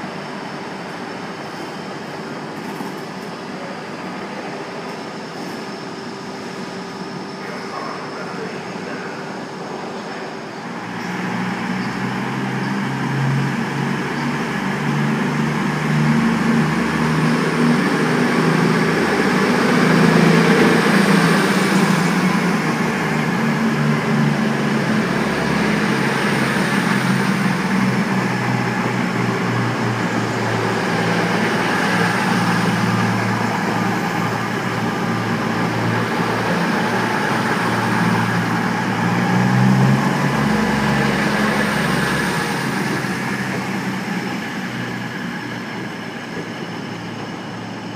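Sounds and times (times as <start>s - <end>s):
train diesel engine drone: 0.0s - 47.9s.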